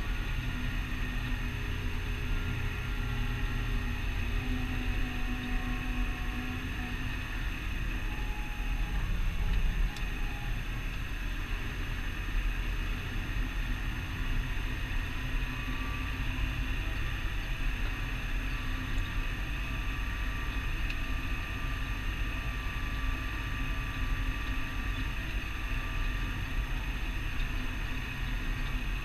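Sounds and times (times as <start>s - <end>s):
faint high whine: 0.0s - 29.0s
tractor diesel engine running: 0.0s - 29.0s.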